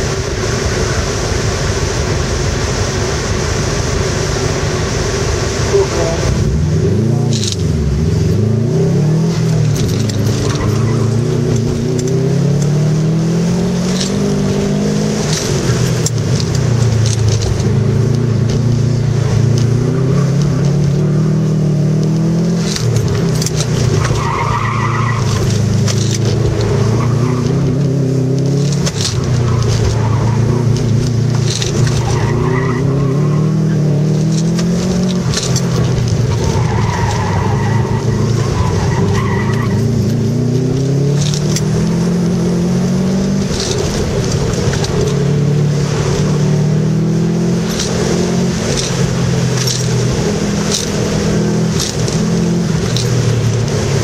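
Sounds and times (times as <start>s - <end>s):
car engine revving: 0.0s - 54.0s
tires squealing: 0.0s - 54.0s.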